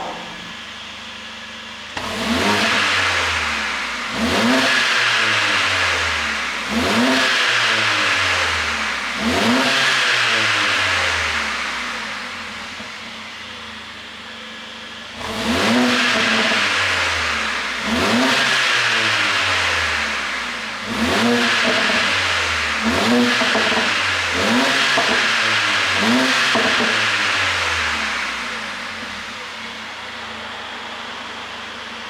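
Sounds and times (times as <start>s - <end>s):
car engine revving: 1.9s - 12.8s, 15.1s - 32.0s.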